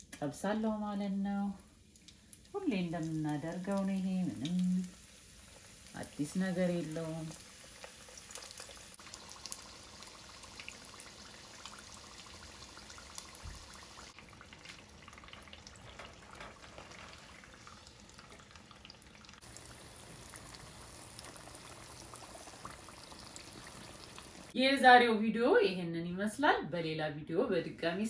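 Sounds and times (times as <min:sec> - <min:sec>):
deep-frying oil sizzling: 0:01.6 - 0:24.6.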